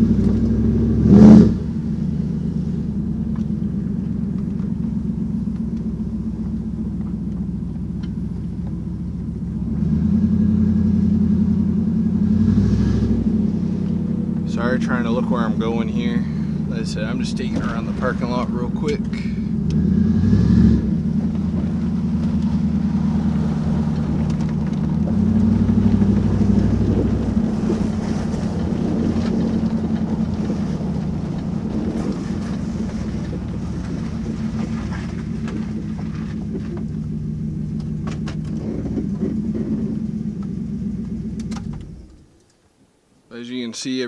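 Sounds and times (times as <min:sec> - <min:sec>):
car engine from inside car: 0:00.0 - 0:42.5.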